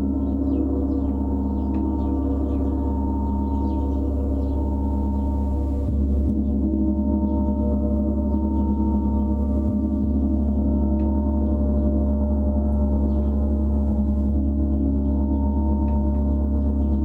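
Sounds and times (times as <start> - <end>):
gong drone: 0.0 - 17.0.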